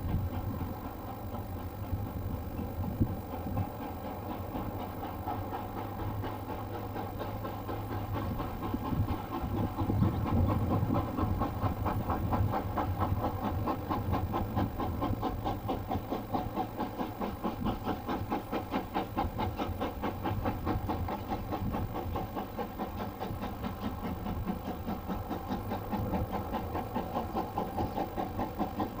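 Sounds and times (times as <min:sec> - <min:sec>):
train engine running: 0:00.0 - 0:29.0.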